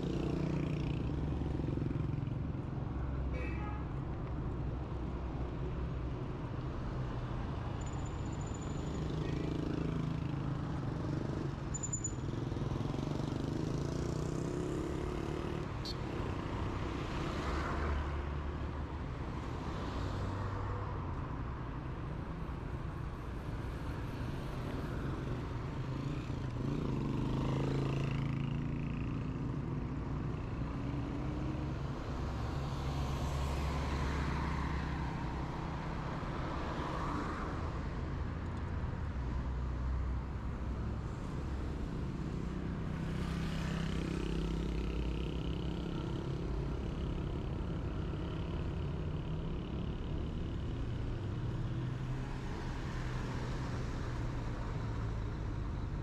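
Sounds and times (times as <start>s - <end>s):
cars and motorbikes passing: 0.0s - 3.3s, 4.0s - 56.0s.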